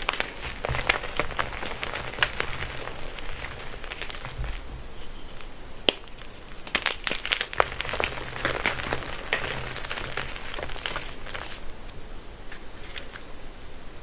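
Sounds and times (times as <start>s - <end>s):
chalk crumbling and snapping: 0.0s - 13.3s.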